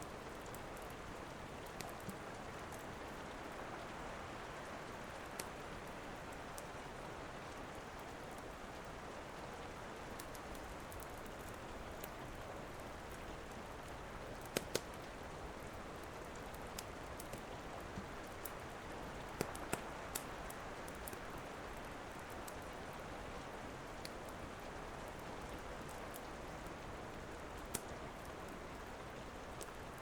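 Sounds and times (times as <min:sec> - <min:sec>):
wood fire crackling: 0:00.0 - 0:06.9, 0:07.6 - 0:30.0.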